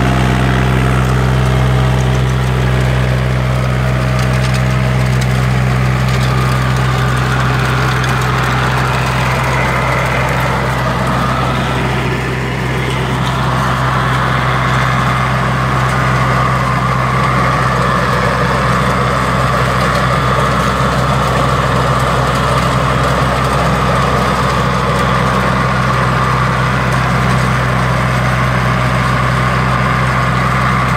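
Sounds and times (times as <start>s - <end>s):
rotary tiller in soil: 0.0s - 30.9s
tractor diesel engine running: 0.0s - 30.9s.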